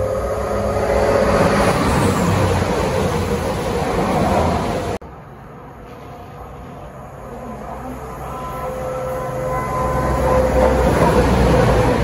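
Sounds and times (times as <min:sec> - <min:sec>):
diesel train running: 0:00.0 - 0:12.0.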